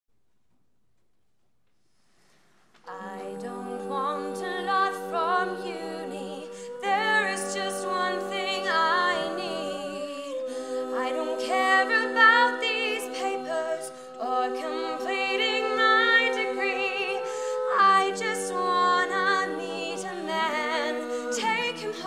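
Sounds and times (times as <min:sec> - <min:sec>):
women singing in close harmony: 0:02.9 - 0:22.0.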